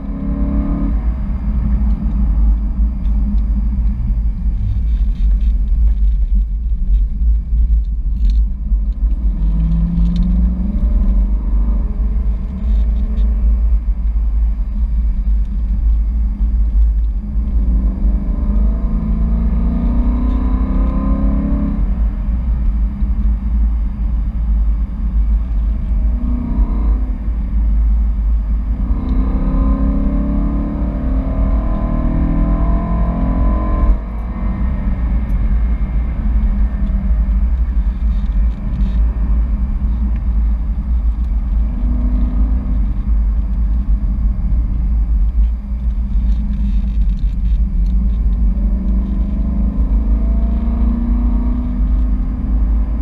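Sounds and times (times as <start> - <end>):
car engine accelerating: 0.0 - 53.0
road rumble: 0.0 - 53.0.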